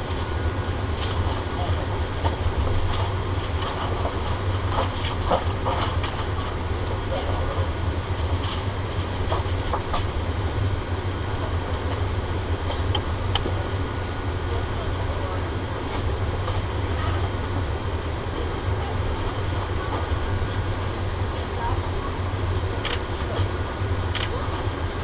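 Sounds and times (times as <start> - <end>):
aircraft cabin hum: 0.0 - 25.0.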